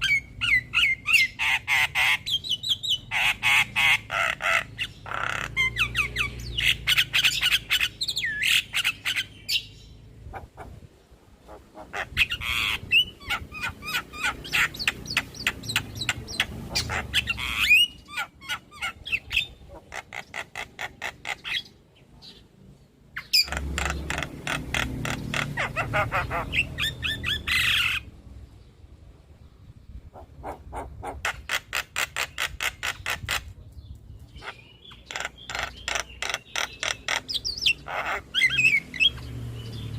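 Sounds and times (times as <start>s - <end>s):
myna bird calling: 0.0s - 28.7s, 29.8s - 39.9s.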